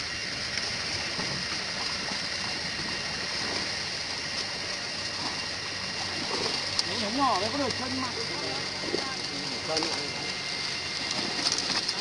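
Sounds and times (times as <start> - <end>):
shallow water sloshing: 0.0 - 12.0.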